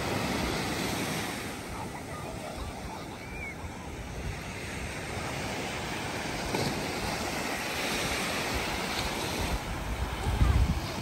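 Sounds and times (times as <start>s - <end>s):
small waves breaking on sand: 0.0s - 11.0s
wind on microphone: 0.0s - 11.0s.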